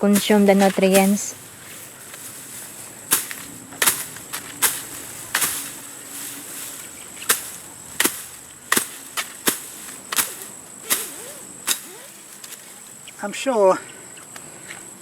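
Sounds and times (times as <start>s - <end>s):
machete swishing through grass: 0.0s - 13.0s
high insect-like whine: 0.0s - 15.0s.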